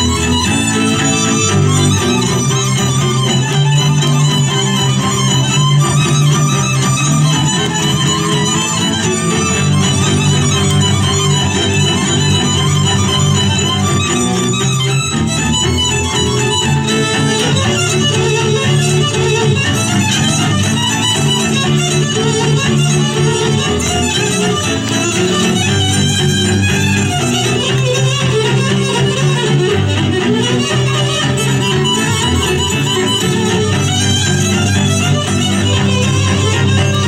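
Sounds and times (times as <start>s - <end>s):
low string accompaniment: 0.0s - 37.0s
violin playing folk dance tune: 0.0s - 37.0s.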